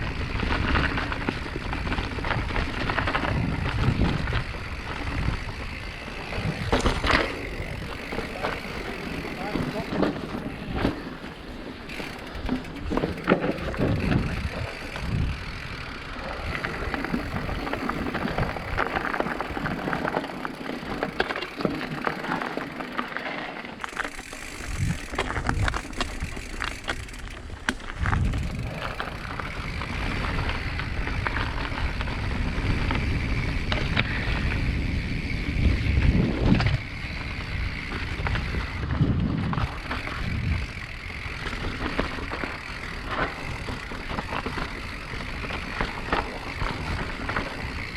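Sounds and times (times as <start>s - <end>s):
mountain bike rattling on rough trail: 0.0s - 47.9s.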